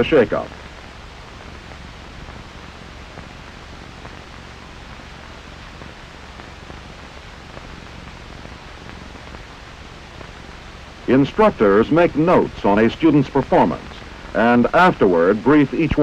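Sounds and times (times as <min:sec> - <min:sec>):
film soundtrack hiss: 0:00.0 - 0:16.0
low hum: 0:00.0 - 0:16.0.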